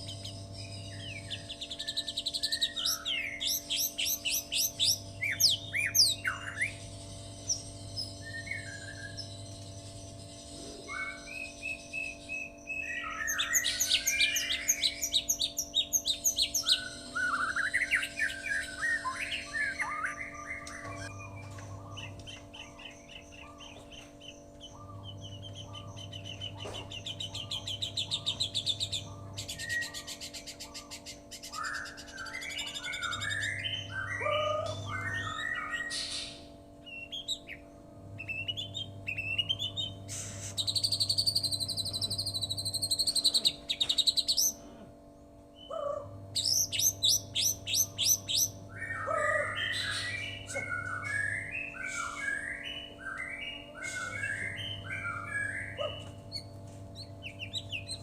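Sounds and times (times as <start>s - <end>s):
bird singing whistled trills: 0.0s - 9.9s, 10.5s - 37.6s, 46.4s - 58.0s
electrical hum: 0.0s - 58.0s.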